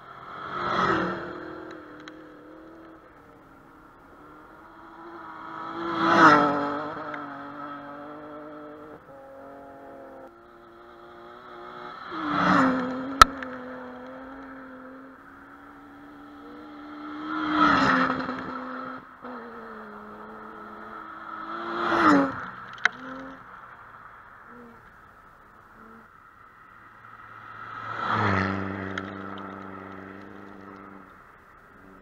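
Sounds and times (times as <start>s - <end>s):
rally cars passing at speed: 0.0s - 32.0s.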